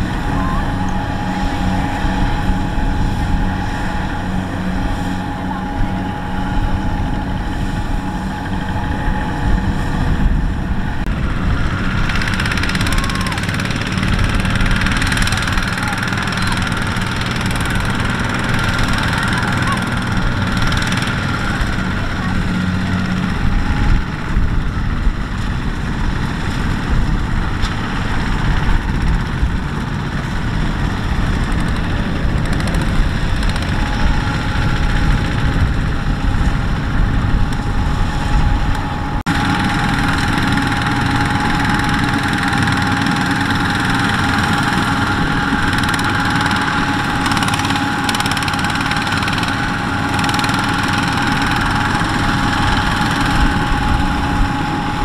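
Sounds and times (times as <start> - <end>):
harvester diesel engine running: 0.0 - 55.0
high machinery whine: 0.0 - 55.0.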